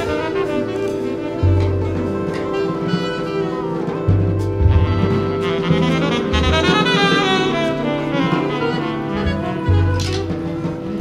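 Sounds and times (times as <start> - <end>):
saxophones playing: 0.0 - 11.0
walking bass line: 0.0 - 11.0.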